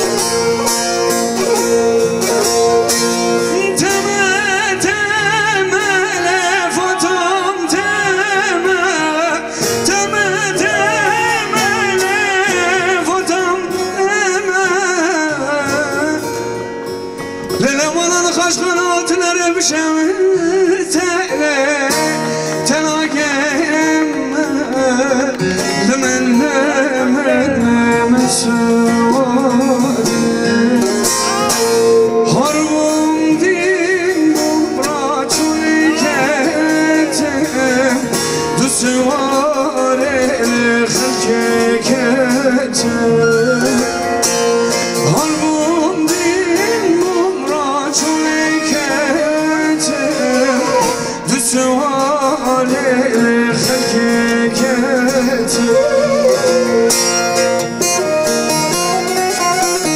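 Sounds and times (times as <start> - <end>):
live instruments: 0.0 - 59.9
man singing folk song: 0.0 - 59.9
plucked lute: 0.0 - 59.9.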